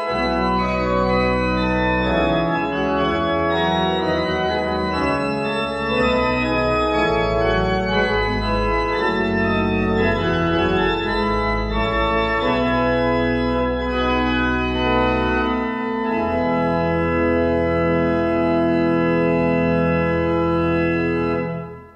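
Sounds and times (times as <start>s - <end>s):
organ chords: 0.0s - 21.9s.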